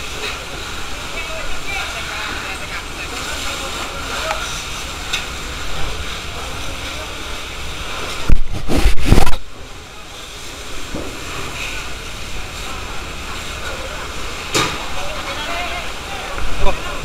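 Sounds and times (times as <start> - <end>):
fire hose spraying water: 0.0 - 17.0.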